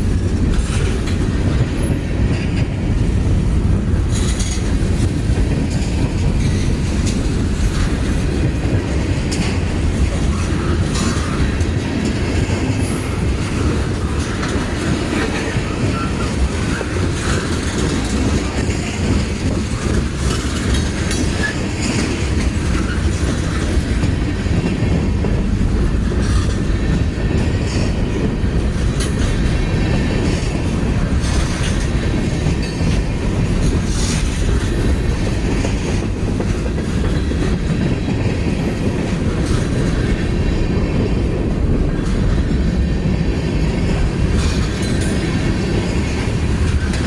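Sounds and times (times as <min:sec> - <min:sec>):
freight train rumbling: 0:00.0 - 0:47.0
train wheels clacking on rails: 0:00.0 - 0:47.0.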